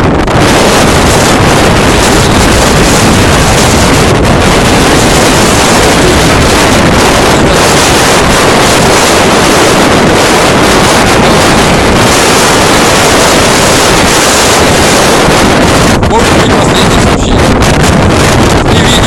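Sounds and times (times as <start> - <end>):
strong wind rushing: 0.0 - 19.0.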